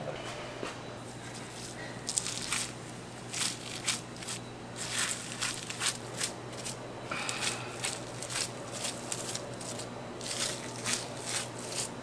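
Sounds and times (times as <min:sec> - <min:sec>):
knife cutting raw meat: 0:01.4 - 0:12.0.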